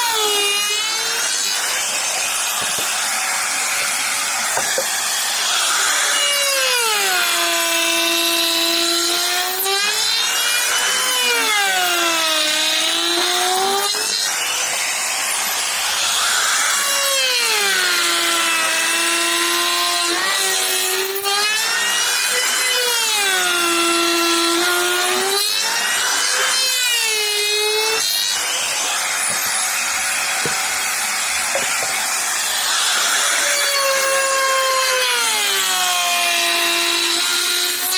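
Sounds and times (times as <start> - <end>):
power tool cutting wood: 0.0 - 37.9.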